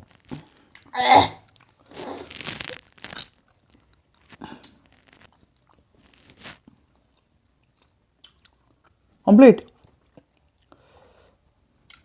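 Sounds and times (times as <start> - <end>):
person chewing crunchy food: 0.0 - 9.0, 9.7 - 10.8, 11.8 - 12.0.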